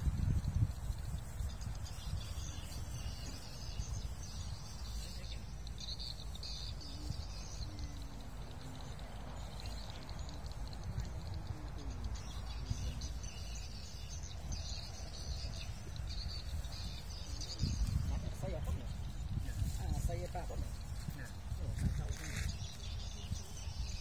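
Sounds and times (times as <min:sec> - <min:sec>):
wind rumble on microphone: 0:00.0 - 0:24.0
faint bird chirps: 0:00.8 - 0:24.0.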